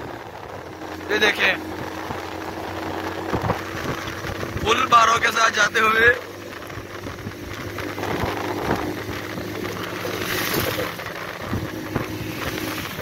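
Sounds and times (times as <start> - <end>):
wind rushing over microphone: 0.0 - 5.3, 6.1 - 13.0
motorcycle engine running: 0.0 - 13.0
road noise: 0.0 - 13.0.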